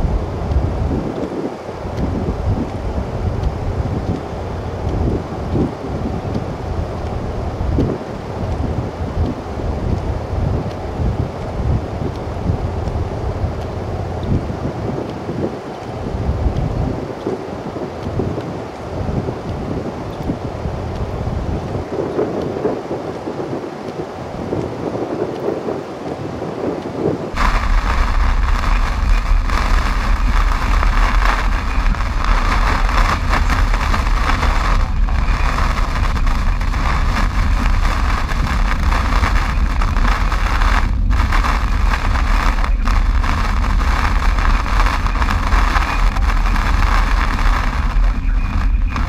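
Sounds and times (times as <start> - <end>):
heavy rain drumming on car roof: 0.0 - 49.0
road and engine rumble: 0.0 - 49.0.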